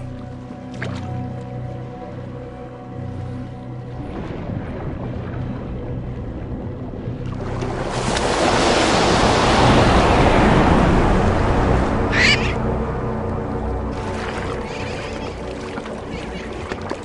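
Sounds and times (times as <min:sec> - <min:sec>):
sea water rushing: 0:00.0 - 0:17.0.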